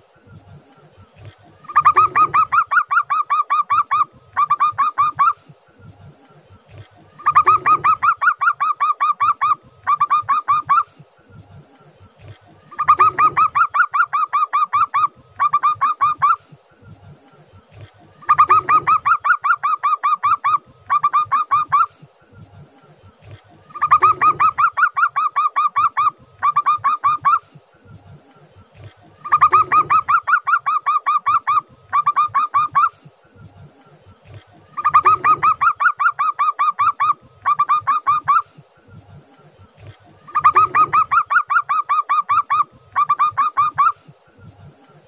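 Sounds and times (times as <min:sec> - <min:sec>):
dove cooing: 0:01.0 - 0:05.6, 0:06.6 - 0:11.2, 0:12.2 - 0:16.6, 0:17.6 - 0:27.7, 0:28.7 - 0:33.2, 0:33.9 - 0:38.7, 0:39.8 - 0:44.2.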